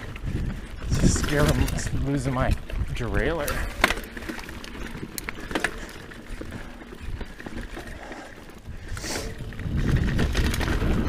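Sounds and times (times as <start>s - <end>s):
bike clicks and rattles: 0.0s - 11.0s.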